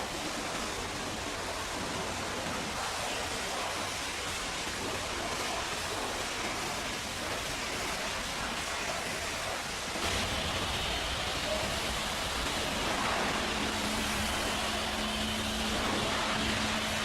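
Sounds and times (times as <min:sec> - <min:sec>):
high-pressure water spray hissing: 0:00.1 - 0:17.0.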